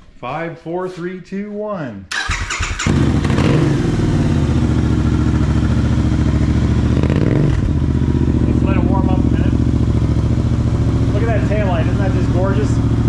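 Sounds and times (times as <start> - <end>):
motorcycle engine idling: 2.2 - 13.0.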